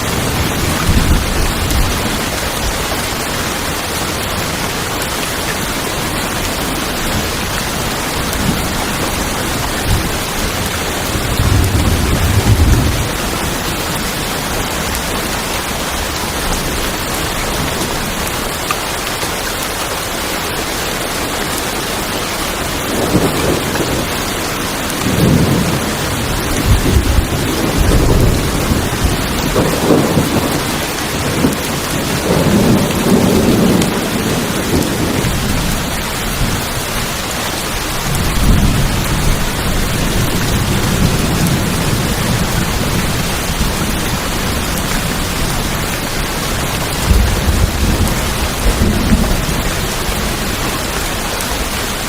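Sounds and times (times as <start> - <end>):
thunder rumbling: 0.0 - 5.0, 5.6 - 18.3, 22.7 - 52.0
heavy rain on a tin roof: 0.0 - 52.0.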